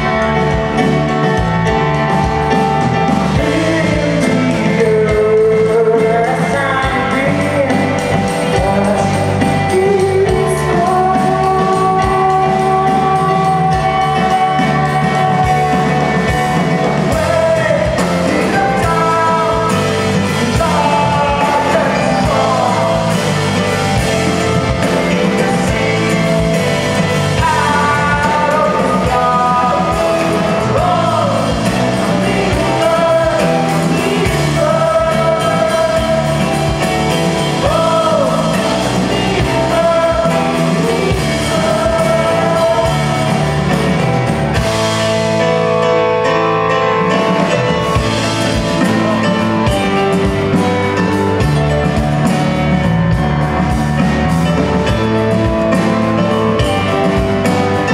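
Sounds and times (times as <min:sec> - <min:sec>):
person singing lead vocal: 0:00.0 - 0:57.9
rock band playing: 0:00.0 - 0:57.9.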